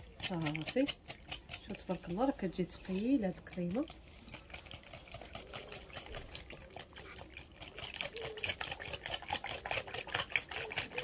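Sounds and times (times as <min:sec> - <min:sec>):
whisk ticking against glass bowl: 0:00.0 - 0:11.0.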